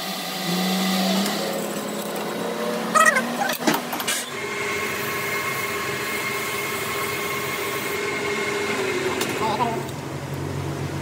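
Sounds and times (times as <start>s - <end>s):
metal lathe whining: 0.0s - 10.0s.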